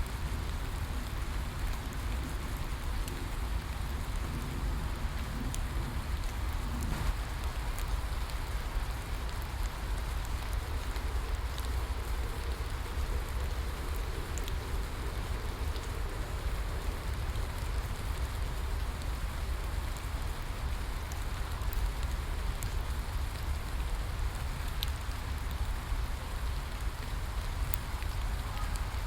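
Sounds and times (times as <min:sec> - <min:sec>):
steady rainfall: 0:00.0 - 0:29.0.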